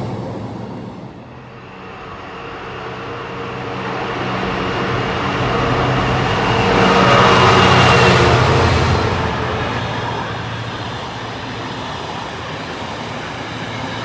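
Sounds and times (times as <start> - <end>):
locomotive engine drone: 0.0 - 14.0
train wheel noise rushing: 0.0 - 14.0.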